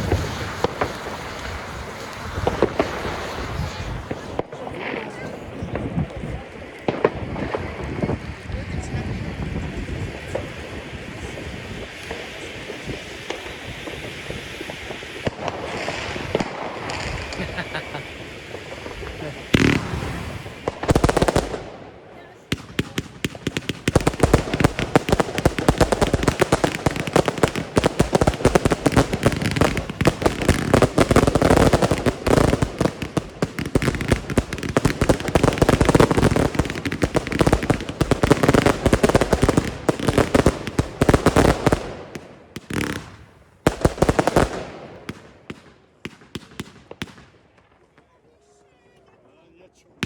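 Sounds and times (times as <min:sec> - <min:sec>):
fireworks crackling and popping: 0:00.0 - 0:50.0.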